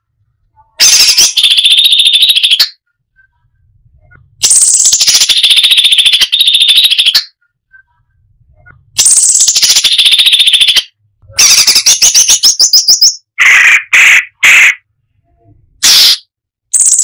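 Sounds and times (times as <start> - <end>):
bird singing trills and notes: 0.8 - 13.4, 15.9 - 17.0.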